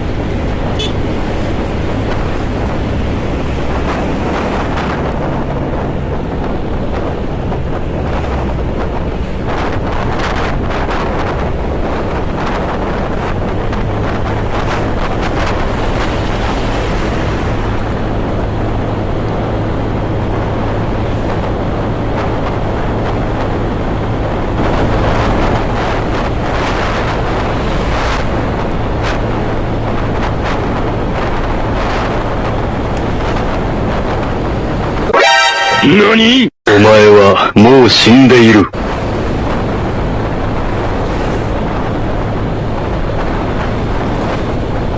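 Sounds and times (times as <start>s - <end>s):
wind rushing over microphone: 0.0s - 35.2s, 36.0s - 44.9s.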